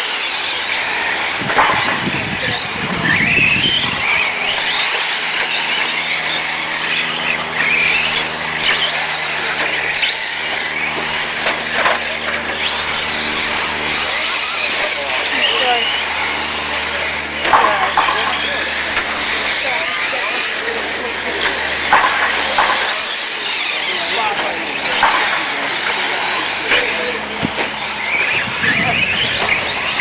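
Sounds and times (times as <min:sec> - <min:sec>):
rc truck motors whining: 0:00.0 - 0:30.0
steady low hum: 0:00.0 - 0:30.0.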